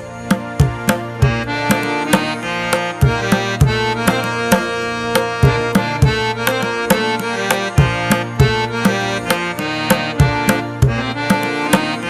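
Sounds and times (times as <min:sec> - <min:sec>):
instrumental music with percussive beat: 0:00.0 - 0:12.0.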